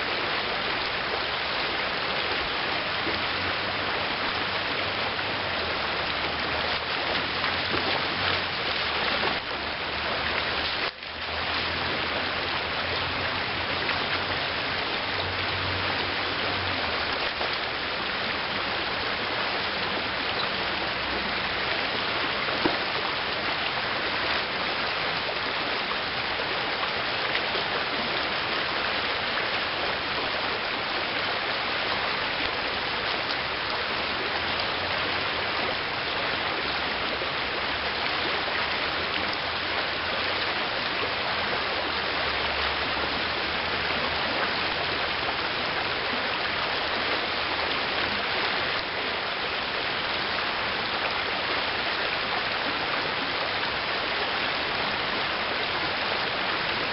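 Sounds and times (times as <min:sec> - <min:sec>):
river flowing over gravel: 0:00.0 - 0:56.9.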